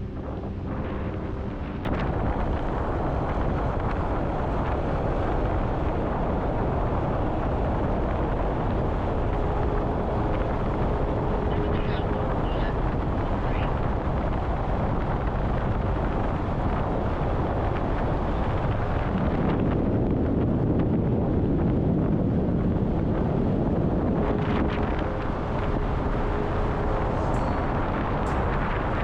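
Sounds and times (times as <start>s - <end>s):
continuous low rumble: 0.0s - 29.0s
wind buffeting microphone: 0.0s - 29.0s.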